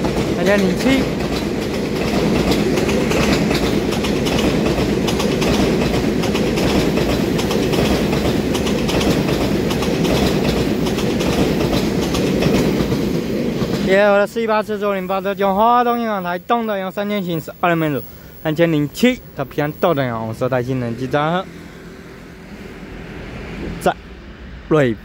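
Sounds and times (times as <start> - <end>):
train wheels rumbling on rails: 0.0 - 24.8.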